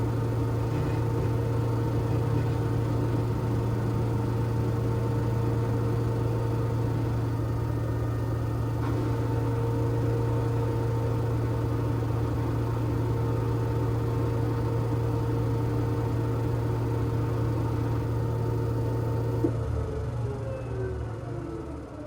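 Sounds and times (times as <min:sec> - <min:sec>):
washing machine running: 0:00.0 - 0:20.4.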